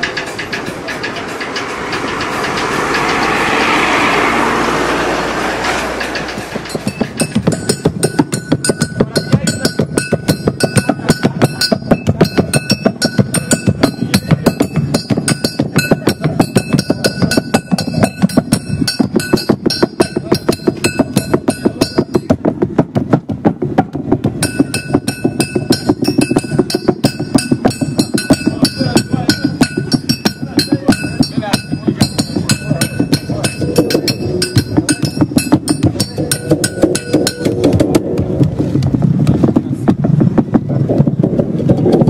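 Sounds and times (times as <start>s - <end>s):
high metallic clinks: 0.0s - 4.2s, 5.6s - 22.4s, 24.4s - 38.2s
rhythmic percussion music: 0.0s - 42.0s.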